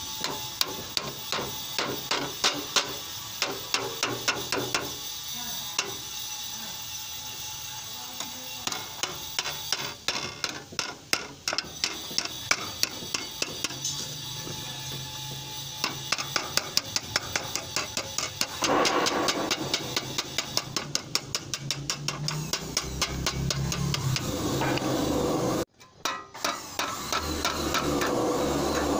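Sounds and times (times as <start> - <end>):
hammer tapping sheet metal: 0.2 - 5.0, 8.2 - 14.6, 15.8 - 28.9.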